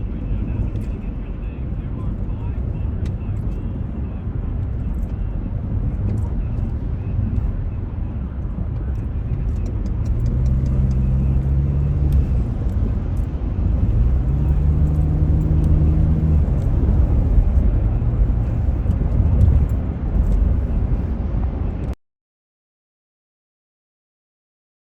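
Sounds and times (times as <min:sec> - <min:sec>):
passing engine hum: 0:00.0 - 0:21.9
low rumble of traffic: 0:00.0 - 0:22.0.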